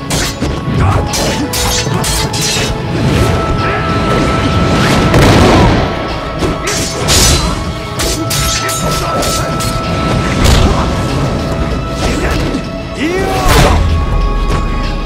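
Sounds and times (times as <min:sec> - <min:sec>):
film score with held tones: 0:00.0 - 0:15.0.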